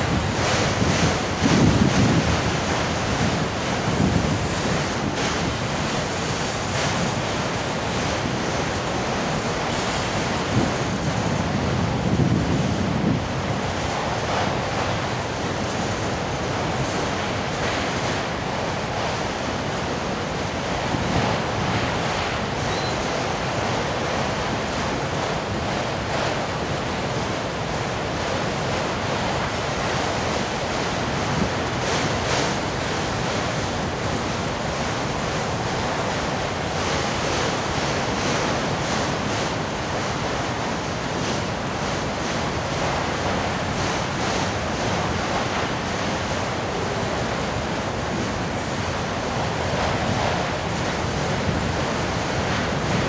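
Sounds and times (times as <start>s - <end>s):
train wheels rolling on rails: 0.0s - 53.0s.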